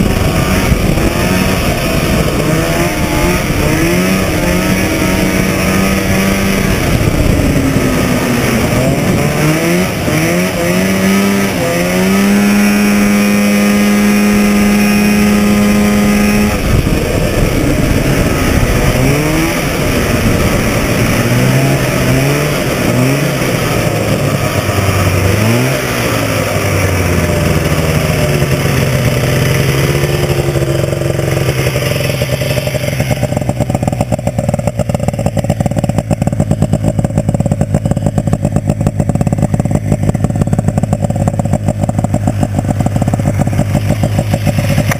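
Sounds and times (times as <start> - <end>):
snowmobile engine revving: 0.0 - 44.9.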